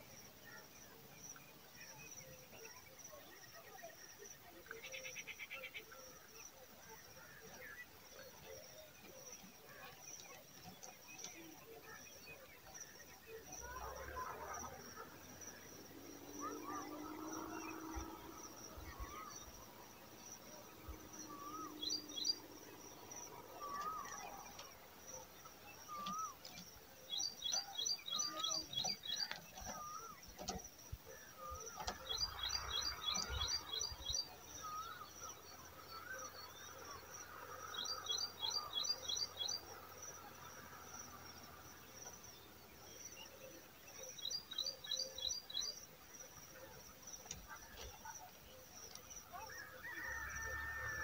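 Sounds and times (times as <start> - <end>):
birds chirping: 0.0 - 51.0
soft wavy bird notes: 4.5 - 51.0.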